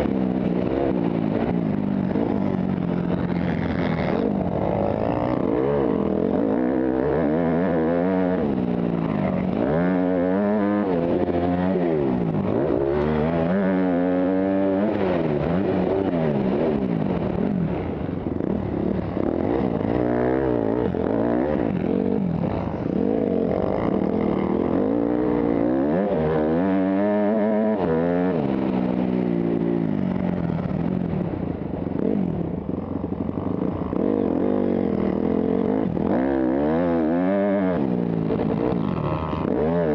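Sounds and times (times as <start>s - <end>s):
dirt bike engine revving: 0.0s - 31.0s, 33.2s - 39.9s.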